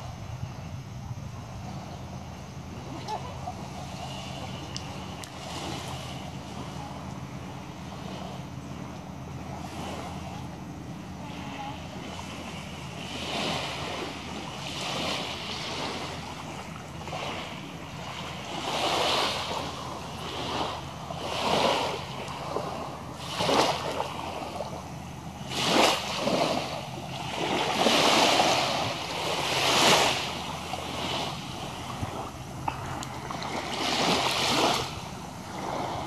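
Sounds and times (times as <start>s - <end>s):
small waves breaking on beach: 0.0s - 36.0s.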